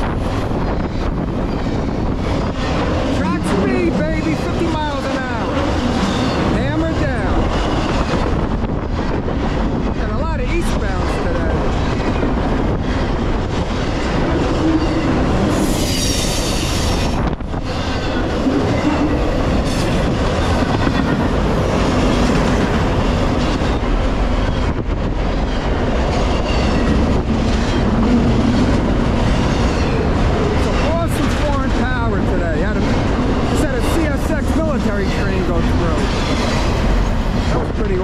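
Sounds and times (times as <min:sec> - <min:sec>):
freight train wheels clacking: 0:00.0 - 0:38.0
wheel flanges squealing: 0:00.4 - 0:08.4, 0:13.8 - 0:24.6, 0:25.4 - 0:38.0.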